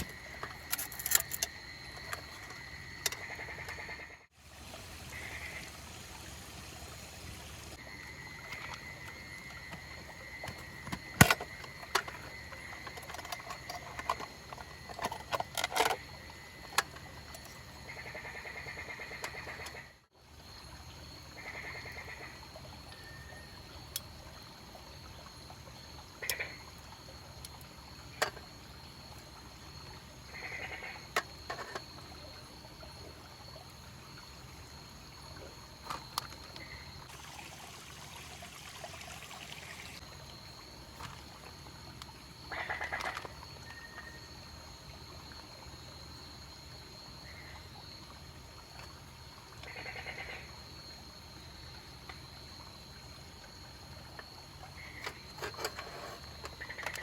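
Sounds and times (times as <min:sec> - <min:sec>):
frogs calling: 0:00.0 - 0:04.3, 0:04.9 - 0:06.3, 0:07.7 - 0:20.0, 0:21.0 - 0:46.4, 0:47.1 - 0:48.0, 0:48.8 - 0:52.2, 0:54.2 - 0:57.0.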